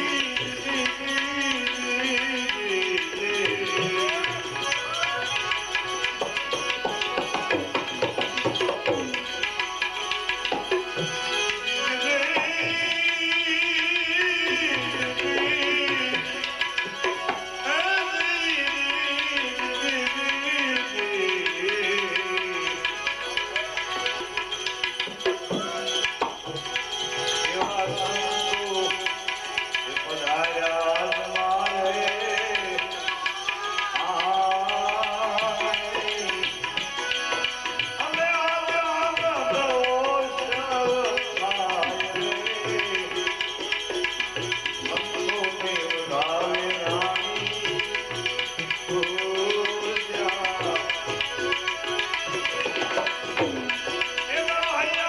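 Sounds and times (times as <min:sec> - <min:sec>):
ornamented devotional melody: 0:00.0 - 0:55.0
tabla playing: 0:00.0 - 0:55.0.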